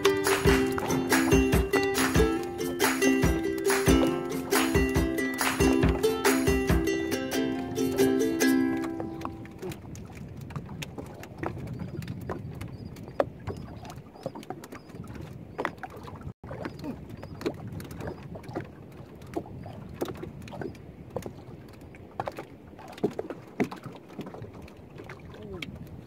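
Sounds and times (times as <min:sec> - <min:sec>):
knocks and splashes: 0:00.0 - 0:26.0
waves slapping against boat hull: 0:00.0 - 0:26.0.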